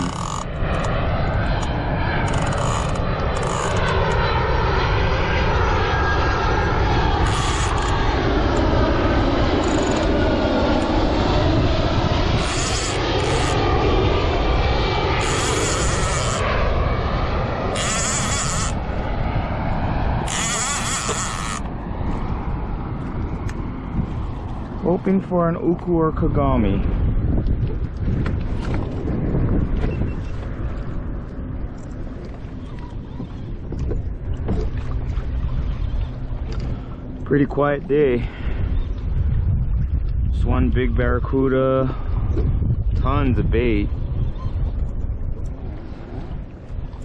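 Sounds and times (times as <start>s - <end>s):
jet airliner flying overhead: 0.0s - 47.0s
wind buffeting microphone: 0.0s - 47.0s.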